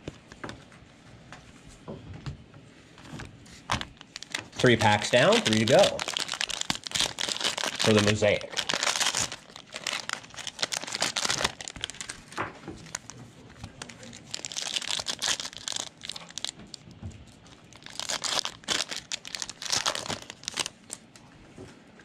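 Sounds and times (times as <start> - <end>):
plastic wrapper crinkling: 3.1 - 21.1.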